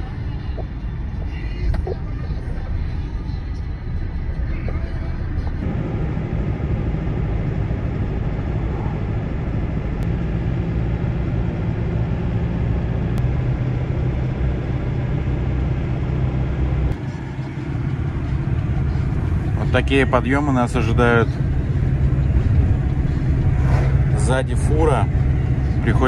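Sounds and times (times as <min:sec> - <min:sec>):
van engine and tyres droning: 0:00.0 - 0:26.0.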